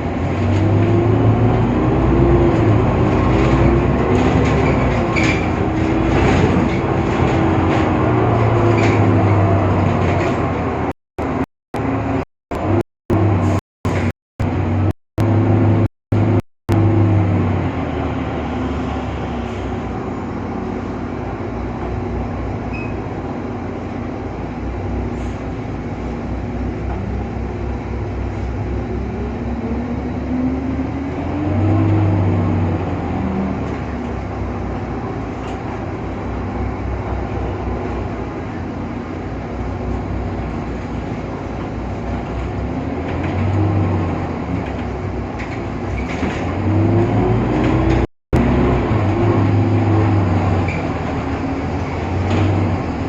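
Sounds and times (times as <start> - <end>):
bus engine running: 0.0 - 53.0
bus engine whine: 0.0 - 53.0.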